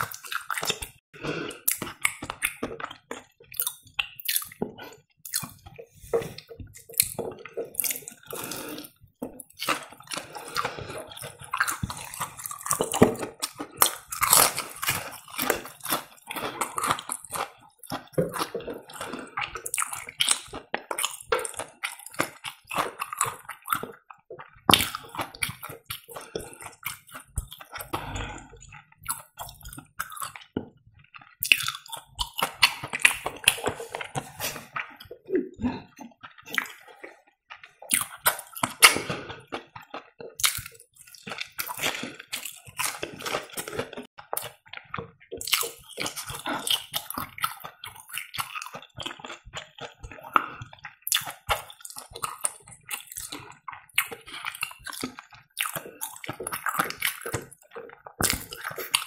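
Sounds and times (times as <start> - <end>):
wet chewing and lip smacks: 0.0 - 59.0
crunching of crumb crust: 1.8 - 35.3, 36.0 - 59.0.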